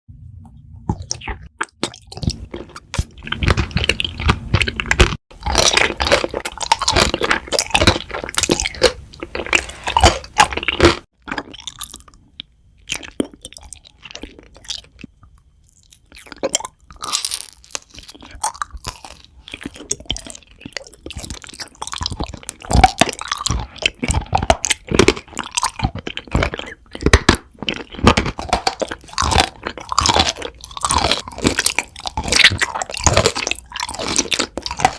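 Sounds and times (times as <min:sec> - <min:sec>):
chewing crackles and clicks: 0:00.9 - 0:34.9.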